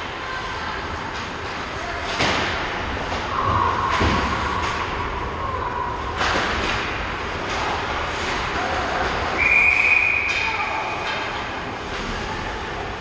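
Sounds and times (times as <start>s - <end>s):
arena rink din: 0.0s - 13.0s.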